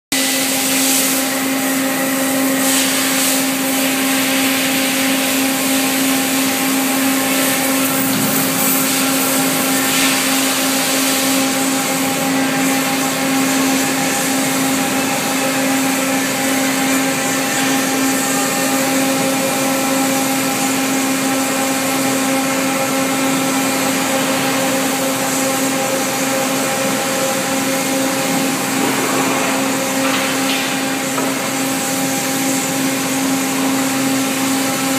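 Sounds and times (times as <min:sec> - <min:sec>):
machinery drone: 0:04.1 - 0:34.9.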